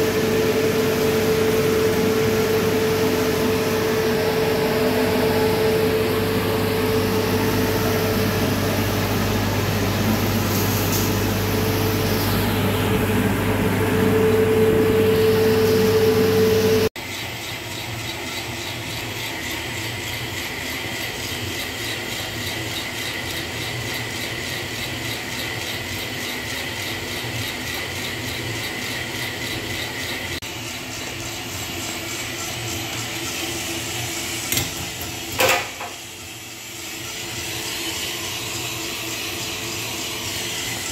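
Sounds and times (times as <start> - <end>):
roasting drum tumbling beans: 0.0 - 16.3, 17.0 - 40.9
coffee roaster cooling tray humming: 0.0 - 40.9.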